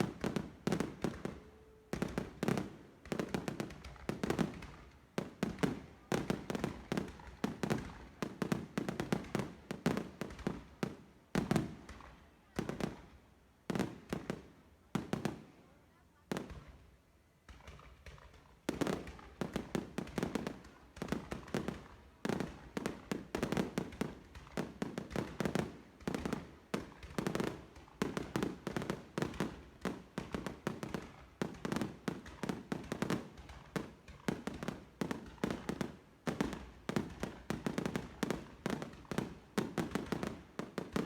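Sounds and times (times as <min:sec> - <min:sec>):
fireworks banging and popping: 0:00.0 - 0:15.5, 0:17.4 - 0:41.0.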